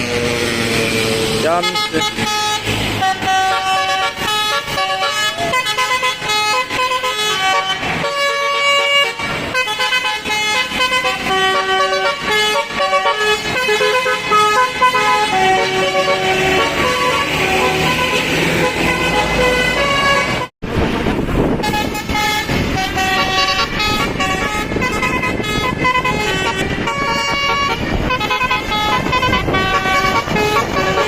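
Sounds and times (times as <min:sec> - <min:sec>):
bus horn playing a tune: 0:00.0 - 0:20.5, 0:21.5 - 0:31.0.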